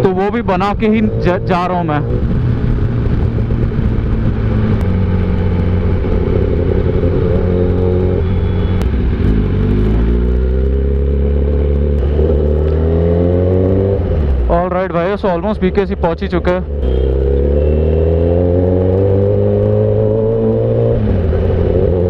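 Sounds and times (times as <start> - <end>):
motorcycle engine accelerating: 0.0 - 22.0
wind and road noise: 0.0 - 22.0.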